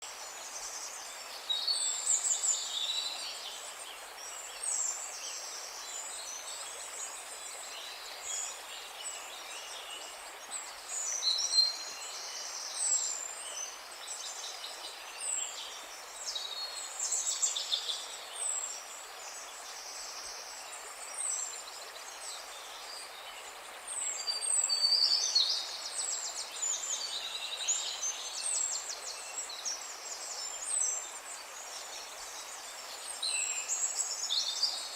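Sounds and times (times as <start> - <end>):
songbirds singing and calling: 0.0 - 34.9
steady background hiss: 0.0 - 34.9.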